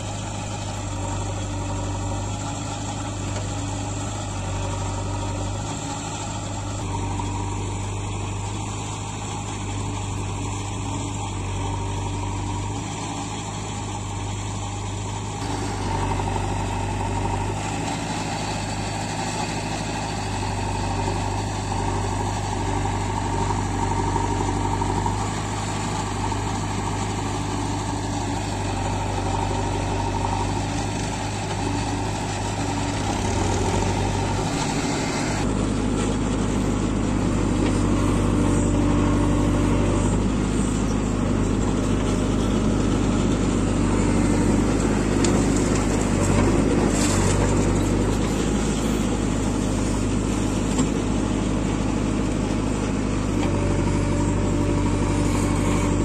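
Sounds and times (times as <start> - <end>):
backhoe digging soil: 0.0 - 56.0
diesel engine running: 0.0 - 56.0.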